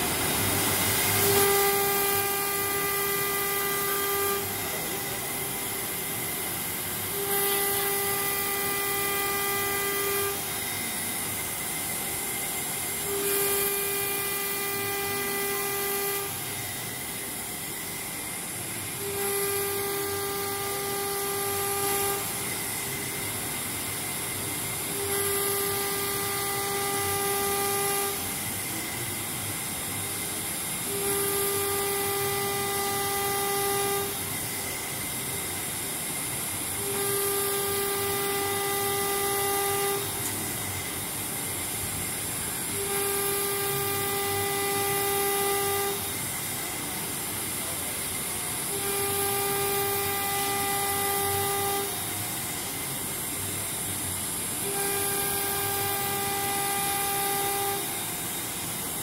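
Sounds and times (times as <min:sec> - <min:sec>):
router spindle cutting plastic: 0:00.0 - 0:59.0.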